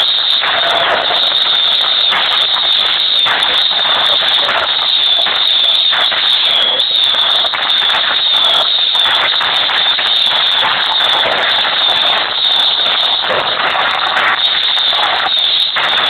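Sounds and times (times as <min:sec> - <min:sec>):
fireworks crackling and hissing: 0:00.0 - 0:16.0.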